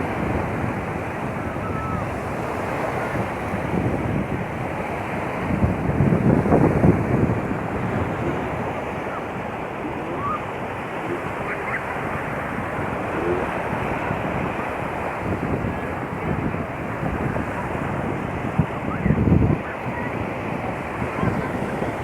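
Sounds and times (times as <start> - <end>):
sea waves washing onto beach: 0.0 - 22.0
wind buffeting microphone: 0.0 - 22.0.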